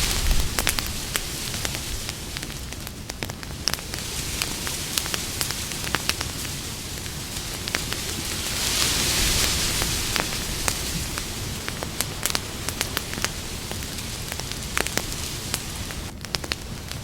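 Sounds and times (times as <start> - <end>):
campfire crackling and popping: 0.0 - 17.0
steady fire hiss: 0.0 - 17.0.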